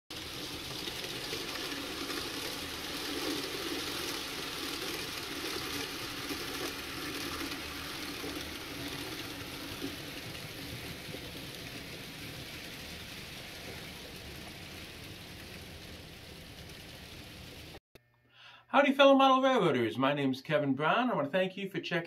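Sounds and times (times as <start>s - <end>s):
model train motor whirring: 0.1s - 17.8s.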